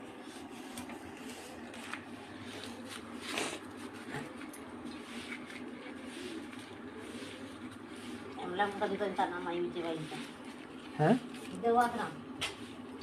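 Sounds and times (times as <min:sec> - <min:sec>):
hands rustling a leaf: 0:00.1 - 0:13.0.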